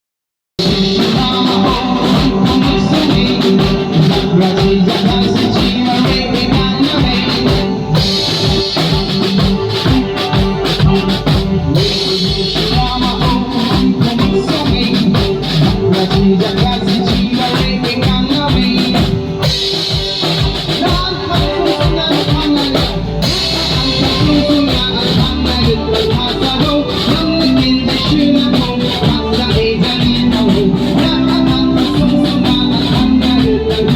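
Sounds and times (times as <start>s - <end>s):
drums and guitar music: 0.6s - 33.9s.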